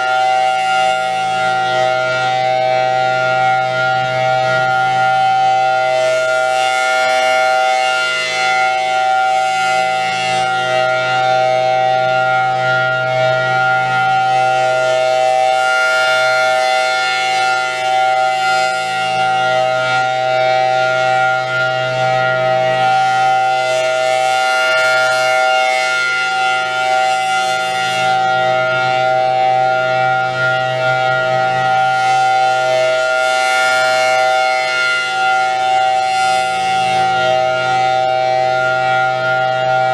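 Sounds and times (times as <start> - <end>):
tornado siren dual-tone alert: 0.0 - 39.9.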